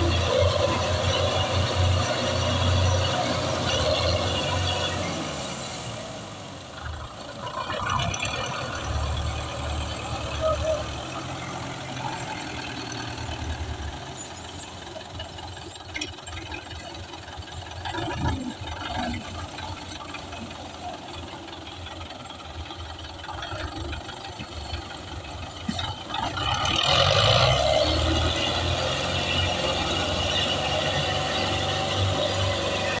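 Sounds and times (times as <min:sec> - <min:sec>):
tractor engine rumbling: 0:00.0 - 0:33.0.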